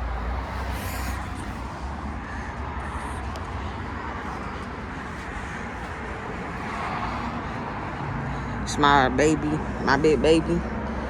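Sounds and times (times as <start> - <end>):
traffic noise with low rumble: 0.0 - 11.0.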